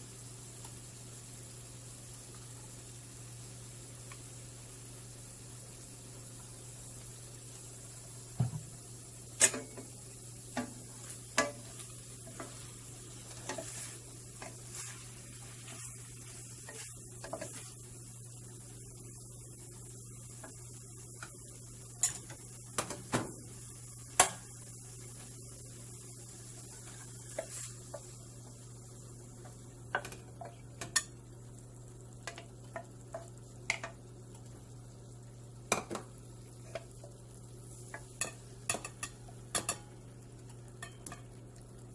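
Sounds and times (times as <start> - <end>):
faint sizzling: 0.0 - 41.9.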